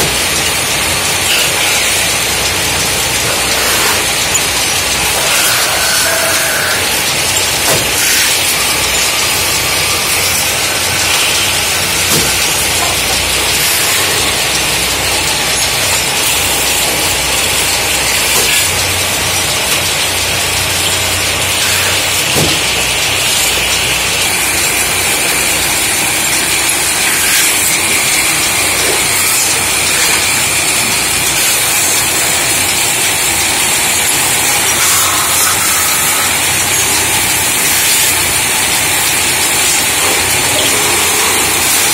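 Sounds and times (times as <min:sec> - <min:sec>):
low drone of machines: 0:00.0 - 0:41.9
tool scraping spinning metal hiss: 0:00.1 - 0:41.9.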